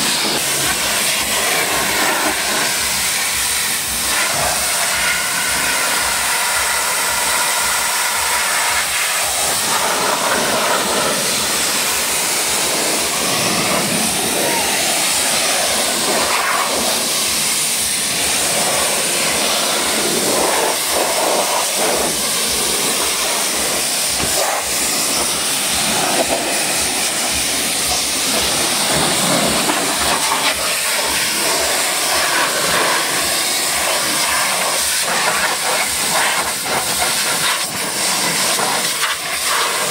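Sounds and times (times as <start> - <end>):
pressure washer jet spraying: 0.0 - 39.9.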